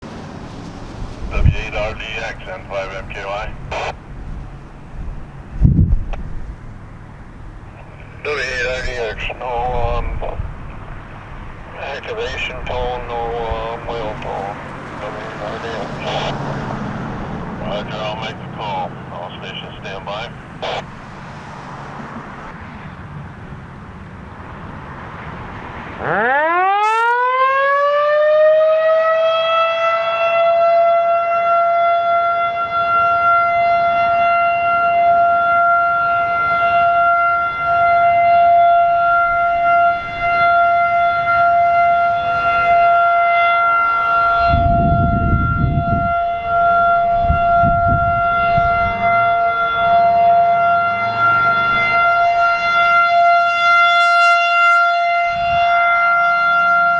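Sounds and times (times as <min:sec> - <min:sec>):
warning siren wailing: 0:00.2 - 0:56.9.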